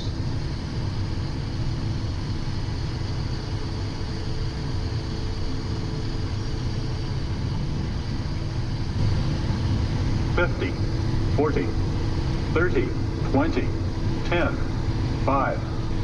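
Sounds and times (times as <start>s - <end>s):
faint steady tones: 0.0s - 16.0s
jet turbofan engines: 0.0s - 16.0s
low rumble: 0.0s - 16.0s.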